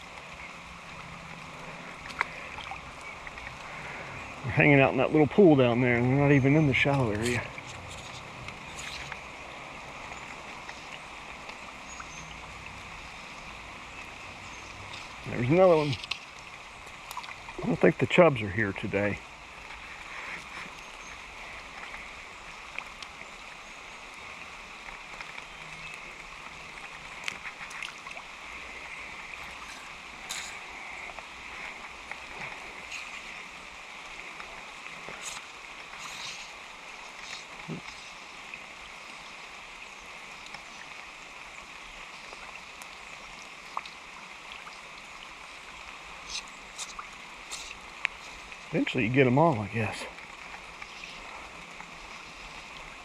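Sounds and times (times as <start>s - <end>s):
creek water running: 0.0s - 53.0s.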